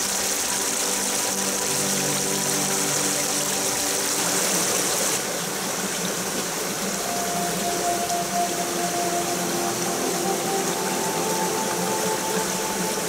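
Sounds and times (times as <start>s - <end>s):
stream splashing over rocks: 0.0s - 13.0s.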